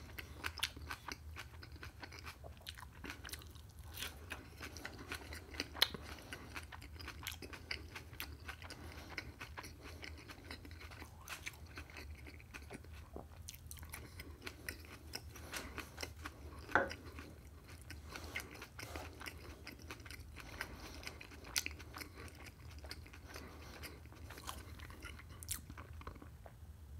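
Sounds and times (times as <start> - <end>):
person chewing food: 0.0 - 26.6.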